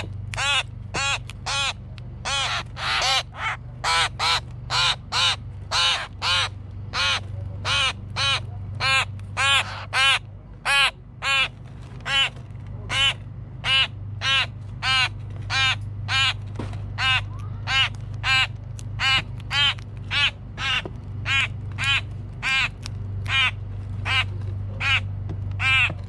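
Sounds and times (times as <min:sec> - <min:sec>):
fledglings begging calls: 0:00.0 - 0:11.5, 0:12.9 - 0:16.4, 0:17.0 - 0:26.0.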